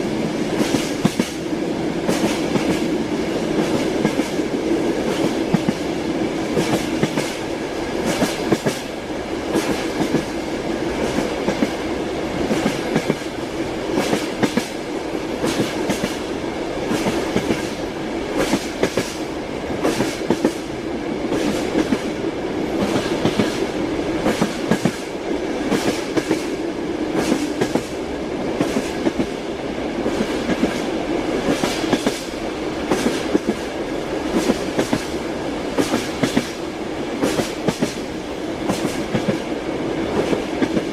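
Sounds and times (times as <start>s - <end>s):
train wheels clacking on rail joints: 0.5s - 1.4s, 2.0s - 28.0s, 28.6s - 29.4s, 30.0s - 39.5s, 40.1s - 40.9s.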